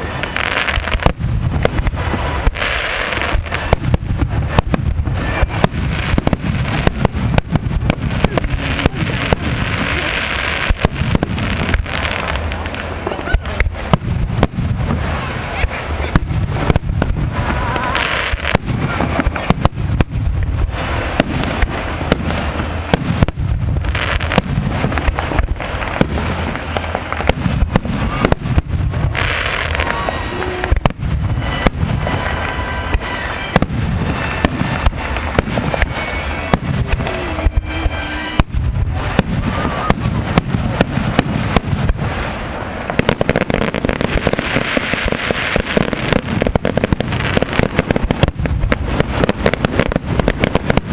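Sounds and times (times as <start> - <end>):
fireworks bangs and crackling: 0.0 - 50.9.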